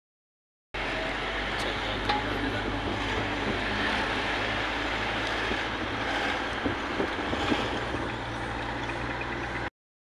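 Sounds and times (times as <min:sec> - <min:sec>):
vehicle engine hum and road noise: 0:00.8 - 0:09.7
wind rushing past open window: 0:00.8 - 0:09.7.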